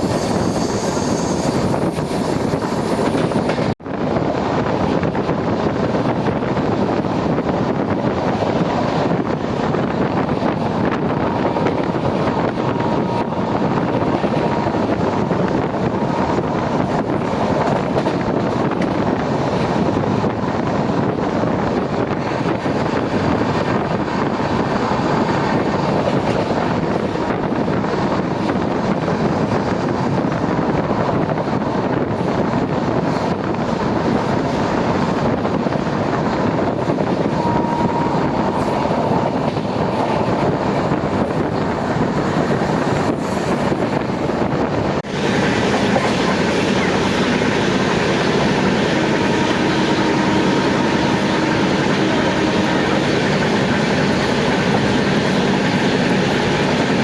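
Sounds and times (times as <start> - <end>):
train rumble with wheel clickety-clack: 0.0 - 57.0.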